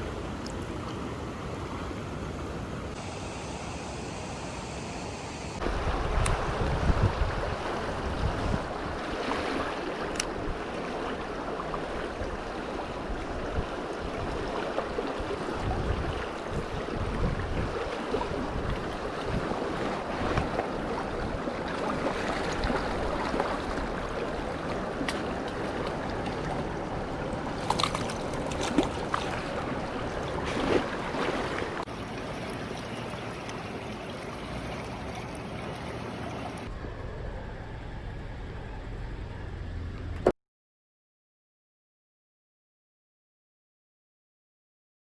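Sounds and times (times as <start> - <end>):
stream water rushing: 0.0 - 36.7.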